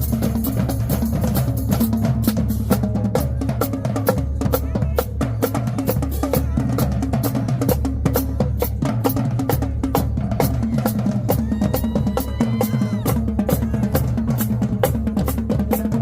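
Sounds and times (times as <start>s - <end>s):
bass drums: 0.0s - 16.0s
marching band playing: 0.0s - 16.0s.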